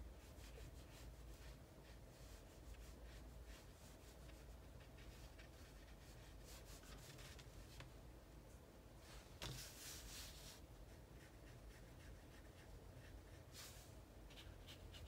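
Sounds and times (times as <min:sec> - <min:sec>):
brush strokes on paper: 0:00.0 - 0:07.8, 0:08.5 - 0:15.0.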